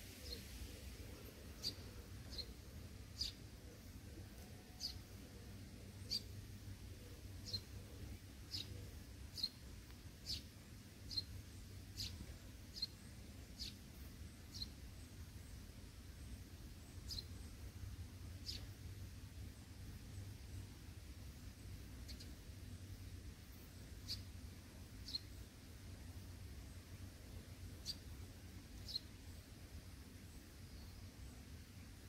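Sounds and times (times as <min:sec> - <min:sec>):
faint low hum: 0:00.0 - 0:32.0
small bird chirping: 0:00.2 - 0:29.6.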